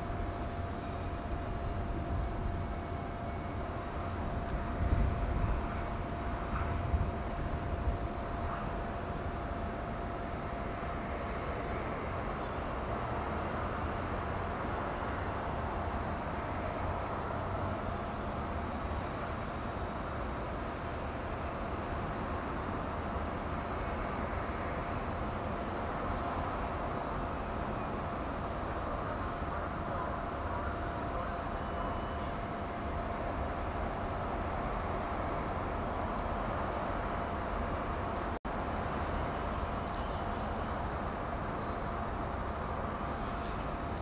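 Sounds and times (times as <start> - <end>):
machinery hum: 0.0 - 44.0.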